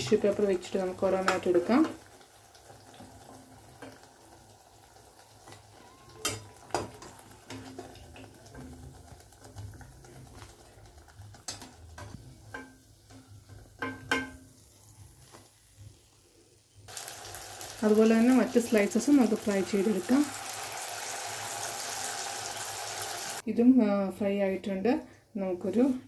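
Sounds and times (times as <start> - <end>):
food frying in oil: 0.0 - 23.5.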